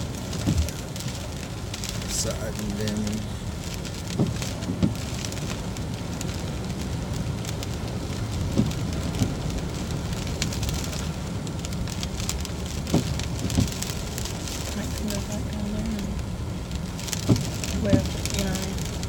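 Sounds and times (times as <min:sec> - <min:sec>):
fine crackles: 0:00.0 - 0:19.0
road and tyre noise: 0:00.0 - 0:19.0.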